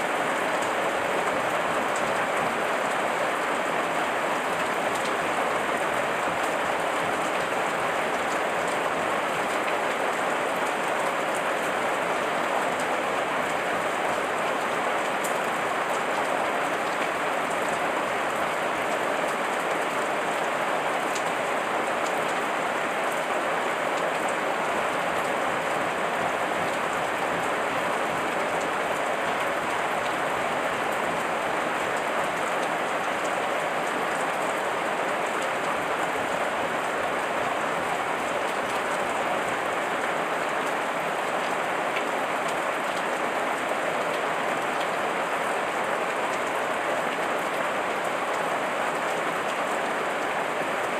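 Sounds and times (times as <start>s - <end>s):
heavy rain on leaves: 0.0s - 50.9s.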